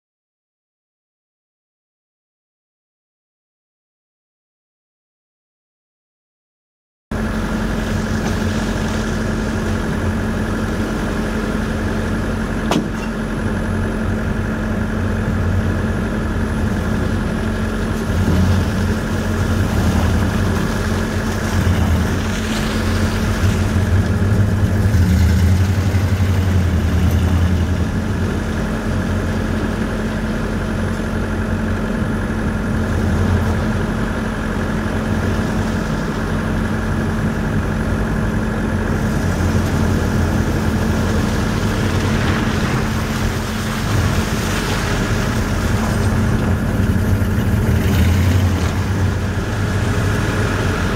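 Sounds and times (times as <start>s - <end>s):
pickup truck engine running: 7.1s - 50.9s.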